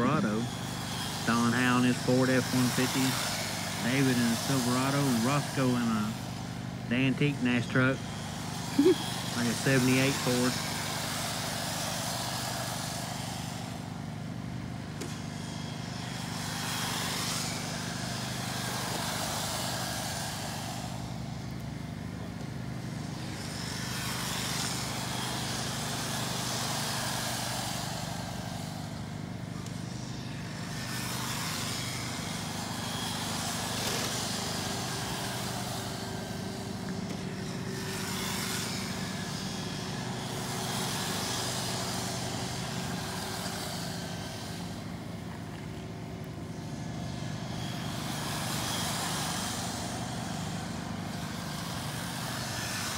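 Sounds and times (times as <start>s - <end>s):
rc cars motor whine: 0.0s - 52.9s
steady low hum: 0.0s - 52.9s.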